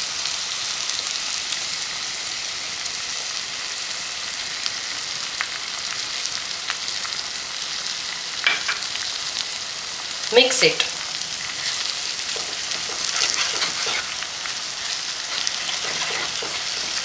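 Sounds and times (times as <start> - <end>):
eggs sizzling in hot oil: 0.0 - 17.0.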